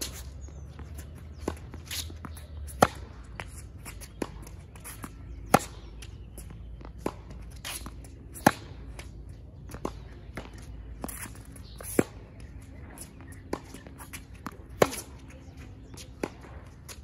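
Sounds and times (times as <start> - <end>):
racket hitting tennis ball: 0.0 - 17.0
tennis ball bouncing: 0.0 - 17.0.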